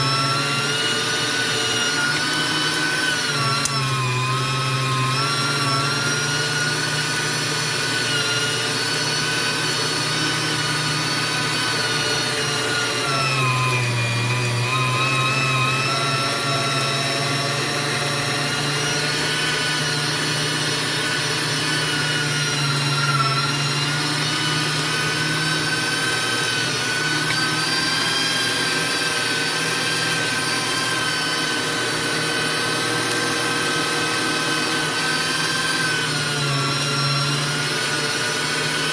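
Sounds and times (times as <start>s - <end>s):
electric meat grinder motor: 0.0s - 38.9s.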